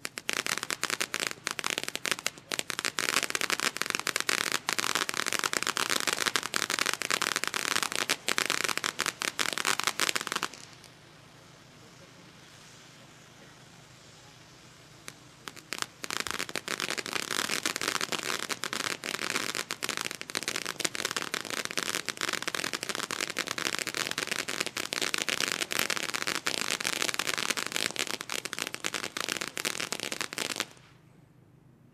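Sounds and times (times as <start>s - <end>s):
firework fountain crackling: 0.0s - 31.1s.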